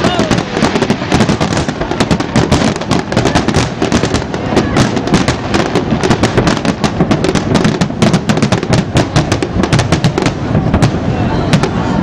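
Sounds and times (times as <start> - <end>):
fireworks booming: 0.0 - 12.0
fireworks cracking: 0.0 - 12.0.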